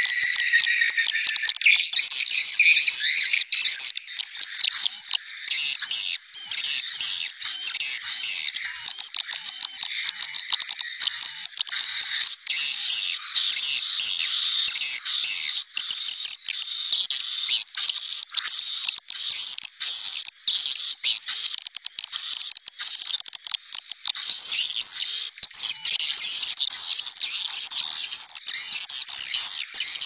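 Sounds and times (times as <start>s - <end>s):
swiftlets chattering and twittering: 0.0s - 5.8s, 7.7s - 30.0s.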